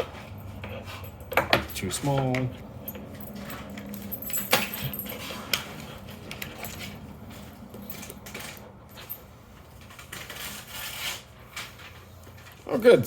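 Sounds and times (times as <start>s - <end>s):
metal wrenches clicking and rattling: 0.3s - 13.0s.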